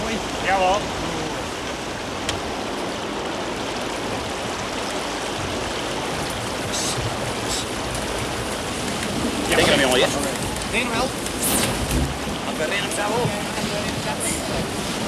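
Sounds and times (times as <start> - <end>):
water rushing along hull: 0.0 - 15.0.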